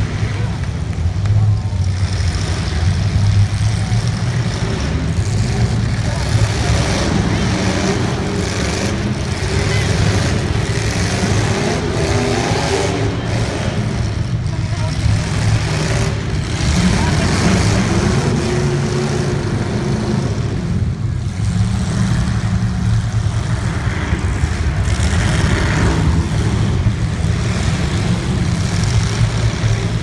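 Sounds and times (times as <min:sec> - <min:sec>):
racing engines droning: 0:00.0 - 0:30.0.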